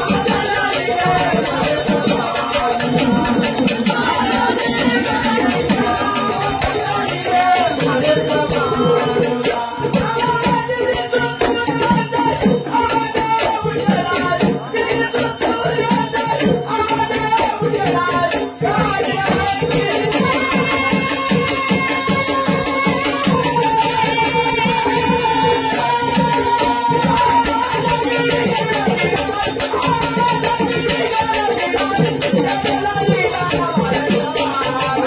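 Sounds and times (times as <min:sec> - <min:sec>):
drums beating: 0:00.0 - 0:35.0
jingling rattling percussion: 0:00.0 - 0:35.0.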